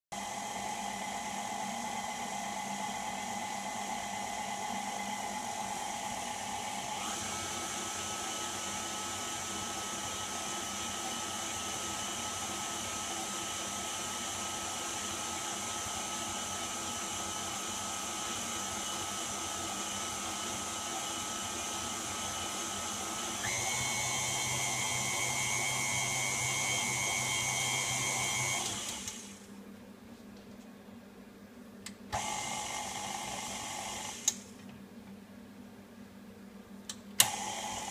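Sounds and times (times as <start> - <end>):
stand mixer running: 0.1 - 29.4, 32.2 - 34.4, 37.2 - 37.9.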